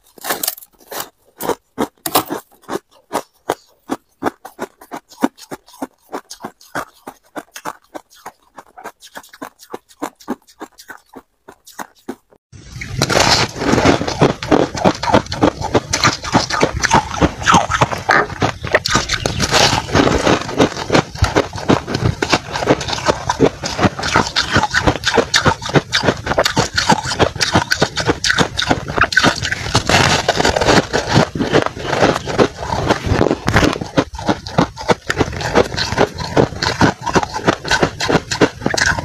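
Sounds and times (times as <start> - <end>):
chewing crunchy frost: 0.0 - 39.0.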